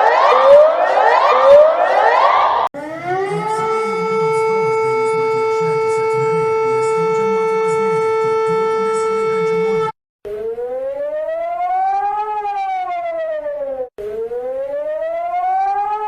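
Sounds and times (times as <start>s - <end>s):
civil defense siren steady tone: 0.0s - 16.0s
siren wailing upward: 0.0s - 16.0s.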